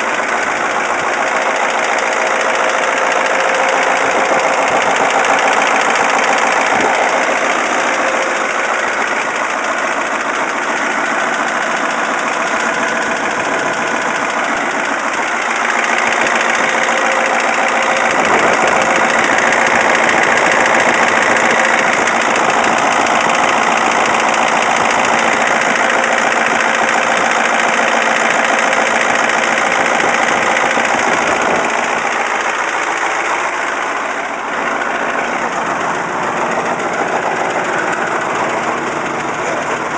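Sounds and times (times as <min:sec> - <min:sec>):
diesel engine rattling knock: 0:00.0 - 0:39.9.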